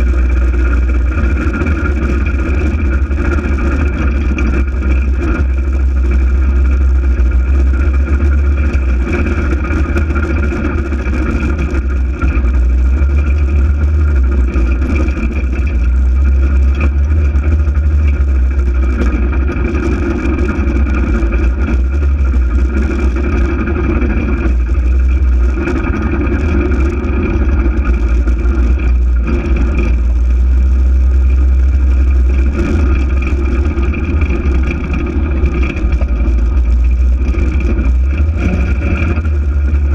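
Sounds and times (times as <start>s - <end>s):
engine rumbling while driving: 0.0s - 39.9s.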